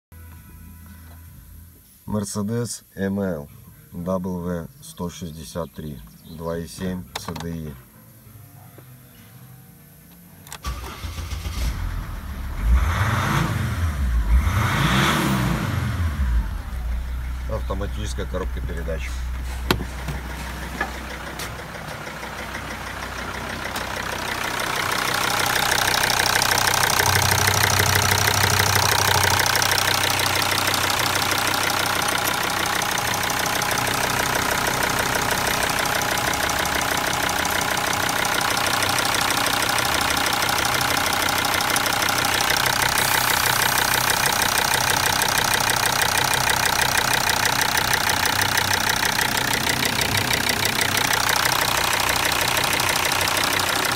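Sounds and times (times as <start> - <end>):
diesel engine idling: 10.5 - 53.9.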